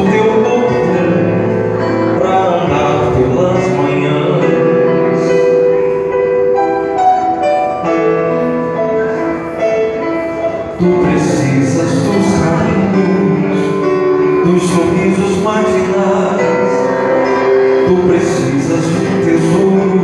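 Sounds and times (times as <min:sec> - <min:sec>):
person singing: 0:00.0 - 0:07.0, 0:07.6 - 0:20.0
live band playing: 0:00.0 - 0:20.0
sustained keyboard chords: 0:00.0 - 0:20.0.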